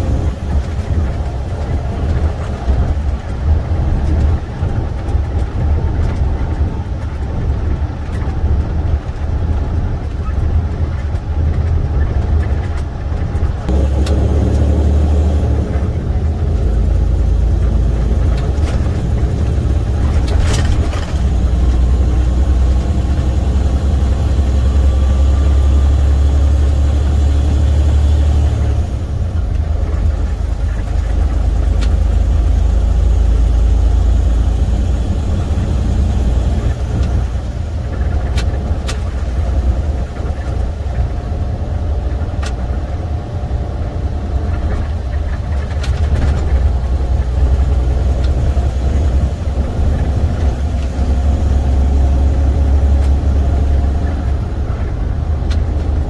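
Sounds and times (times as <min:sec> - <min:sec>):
diesel truck engine rumble: 0:00.0 - 0:56.0
road noise: 0:00.0 - 0:56.0.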